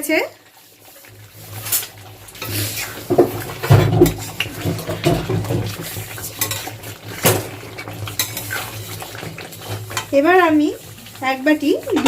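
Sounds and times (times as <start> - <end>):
metal utensil scraping a pot: 1.0 - 12.0.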